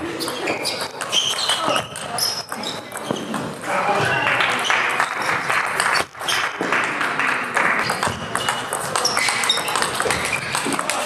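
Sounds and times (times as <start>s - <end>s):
chatter in sports hall: 0.0s - 11.0s.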